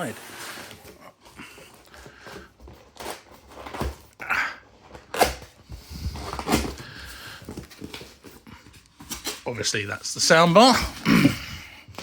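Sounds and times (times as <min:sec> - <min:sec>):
cardboard packaging rustling: 0:00.0 - 0:12.0.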